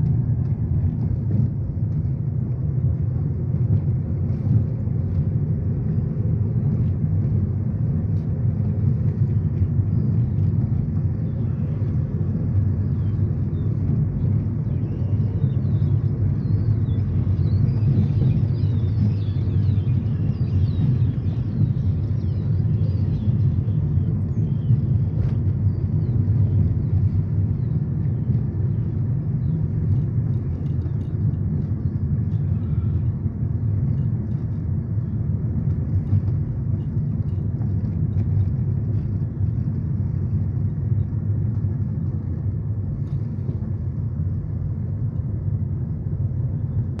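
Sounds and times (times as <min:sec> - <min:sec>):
tyre and road noise: 0:00.0 - 0:47.0.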